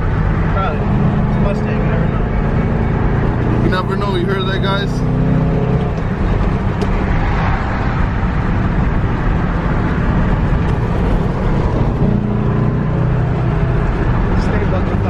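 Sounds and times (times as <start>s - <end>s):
car engine: 0.0s - 15.0s
road noise rush: 0.0s - 15.0s.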